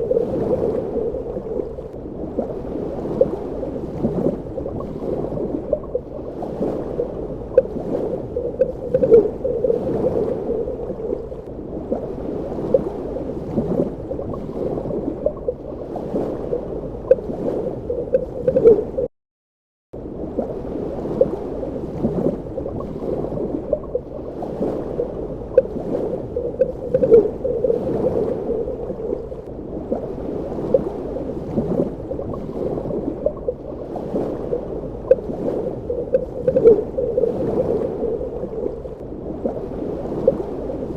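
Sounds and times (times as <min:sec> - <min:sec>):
gurgles and bubble pops: 0:00.0 - 0:19.1, 0:22.0 - 0:40.9
muffled underwater water wash: 0:00.0 - 0:19.1, 0:20.0 - 0:40.9.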